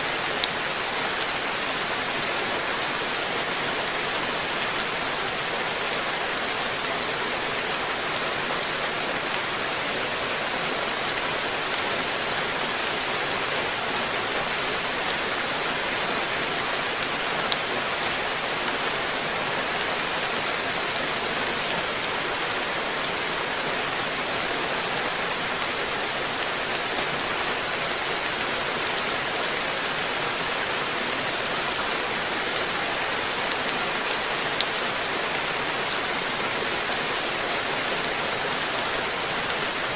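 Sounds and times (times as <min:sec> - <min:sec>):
rain falling on pond: 0:00.0 - 0:39.9.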